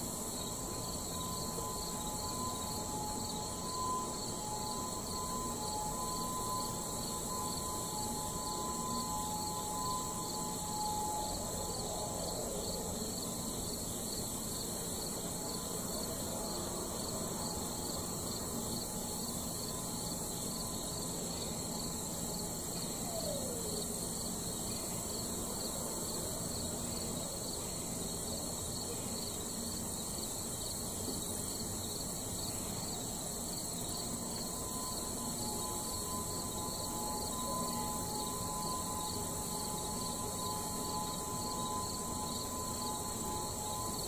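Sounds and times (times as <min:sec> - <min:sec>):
distant warning sirens: 0:00.0 - 0:44.0
high-pitched insect drone: 0:00.0 - 0:44.0.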